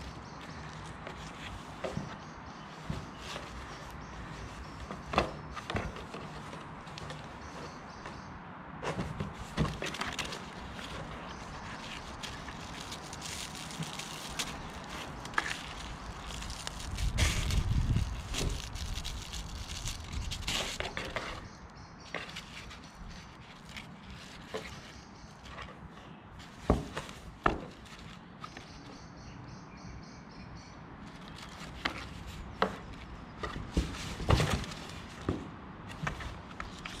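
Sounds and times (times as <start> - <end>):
claws scratching cardboard: 0.0 - 28.8, 31.1 - 37.0.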